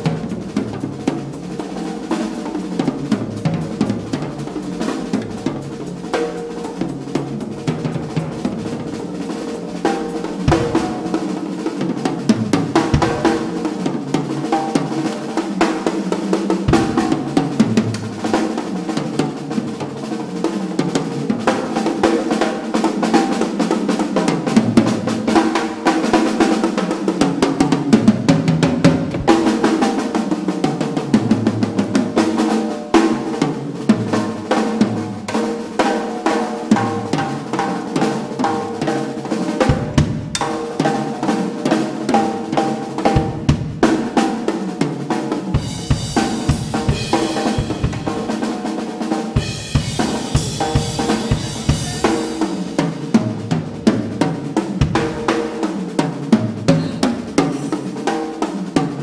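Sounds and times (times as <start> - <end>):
drum solo: 0.0 - 59.0.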